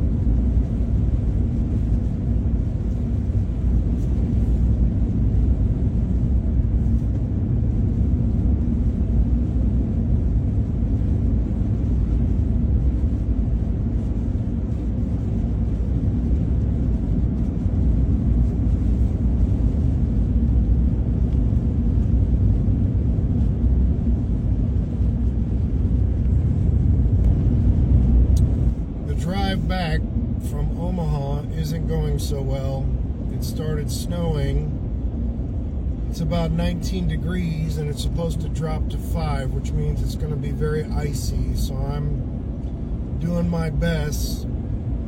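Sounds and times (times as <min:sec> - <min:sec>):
road rumble: 0:00.0 - 0:45.0.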